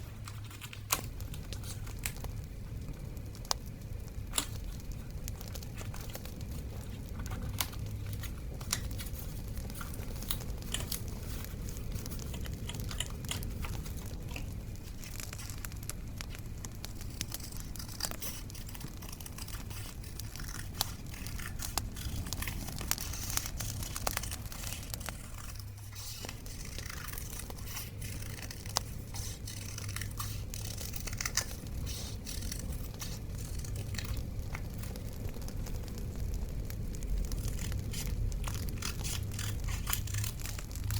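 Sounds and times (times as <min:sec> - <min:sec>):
paper crinkling and rustling: 0:00.0 - 0:02.5, 0:04.2 - 0:40.9
bonfire crackling: 0:00.0 - 0:40.9
small clicks and ticks: 0:00.2 - 0:40.9.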